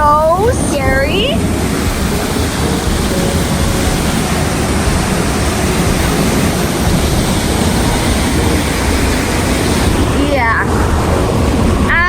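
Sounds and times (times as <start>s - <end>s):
flooded creek rushing: 0.0s - 12.0s.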